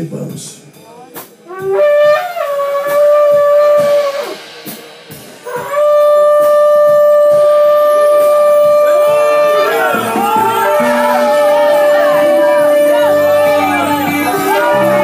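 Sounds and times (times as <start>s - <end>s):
horn blasts: 1.5s - 4.6s, 5.5s - 15.0s.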